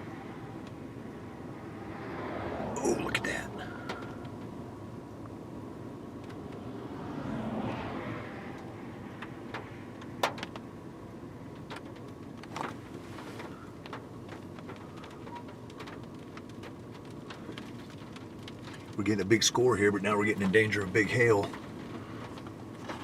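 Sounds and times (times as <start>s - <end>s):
car interior rumble: 0.0s - 23.0s.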